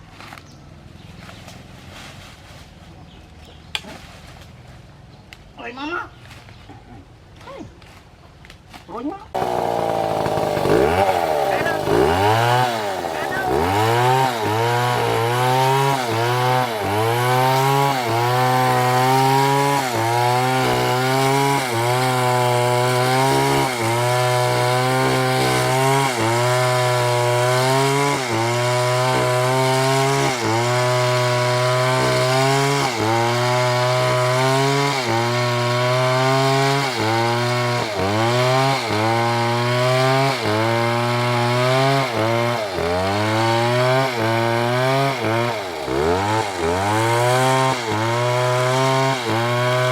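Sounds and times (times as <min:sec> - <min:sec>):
chainsaw cutting wood: 0:09.3 - 0:49.9.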